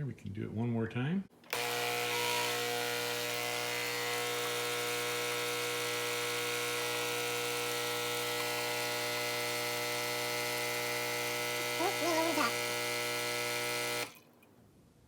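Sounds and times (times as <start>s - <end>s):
espresso machine pump buzzing: 1.5s - 14.2s.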